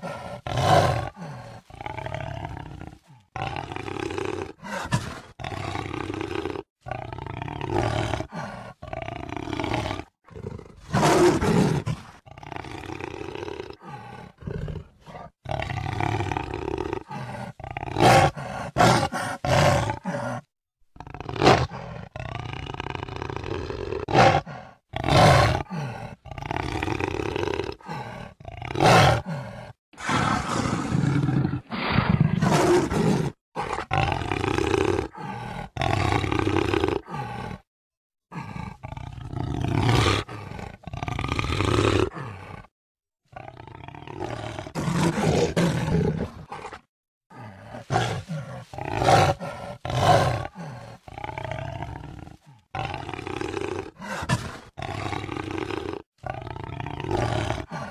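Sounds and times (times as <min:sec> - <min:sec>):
jaguar roaring: 0:00.0 - 0:37.7, 0:38.3 - 0:42.7, 0:43.3 - 0:57.9.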